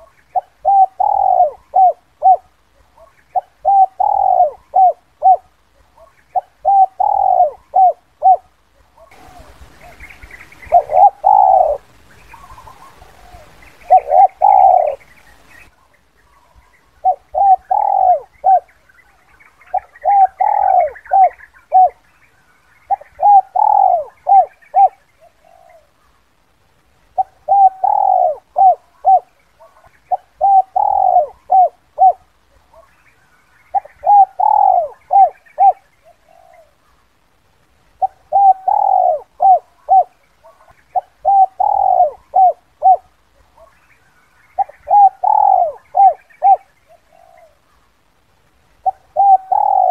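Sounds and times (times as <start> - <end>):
dove cooing: 0.0 - 22.1, 22.9 - 26.0, 27.1 - 33.0, 33.6 - 37.0, 38.0 - 43.8, 44.4 - 47.8, 48.8 - 49.9.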